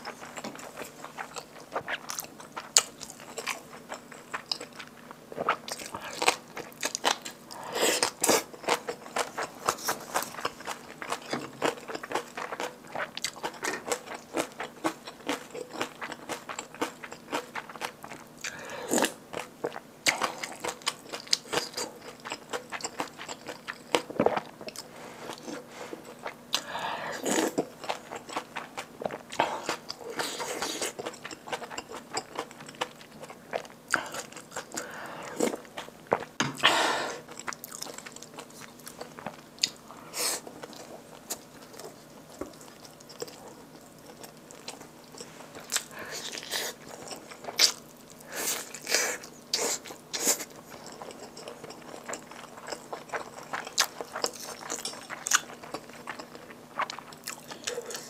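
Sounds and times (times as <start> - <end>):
chewing with wet clicks and crunches: 0.0 - 36.4, 37.2 - 58.0.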